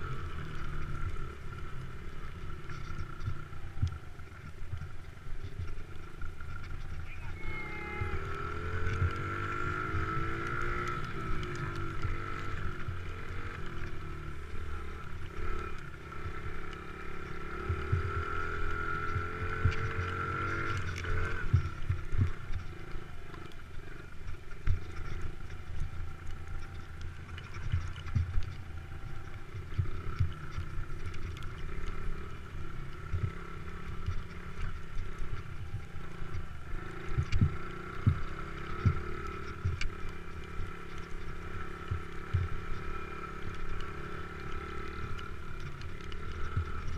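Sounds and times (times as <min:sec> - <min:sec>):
motocross bike engine revving: 0:05.4 - 0:46.9.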